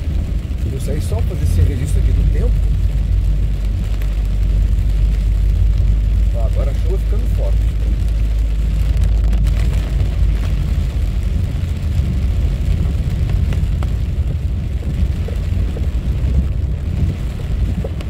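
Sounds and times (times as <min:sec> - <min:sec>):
car driving on wet road: 0:00.0 - 0:18.0
heavy rain on car: 0:00.0 - 0:18.0.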